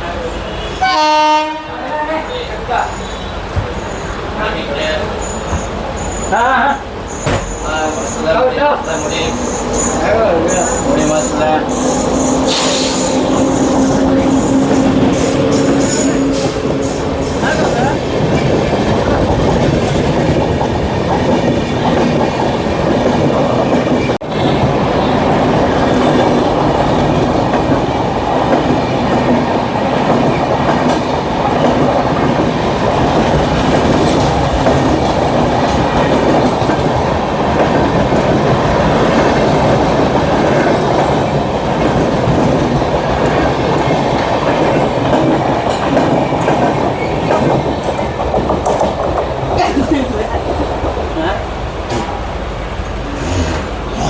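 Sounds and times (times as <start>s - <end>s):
train wheels clattering on rails: 3.4s - 52.3s.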